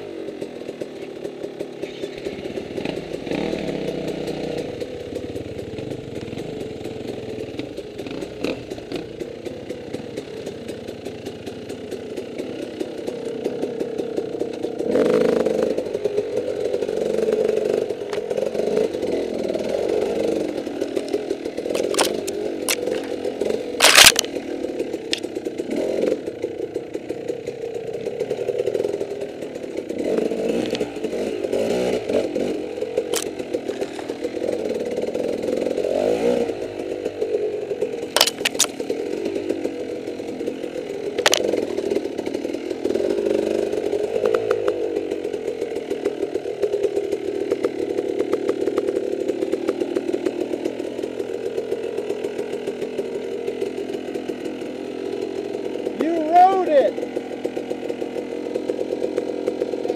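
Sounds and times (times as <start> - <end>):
dirt bike engine at low revs: 0.0 - 59.9.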